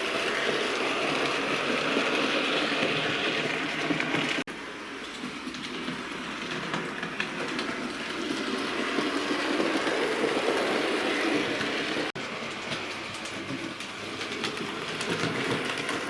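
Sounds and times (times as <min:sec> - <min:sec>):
model train rumbling on track: 0:00.0 - 0:16.0.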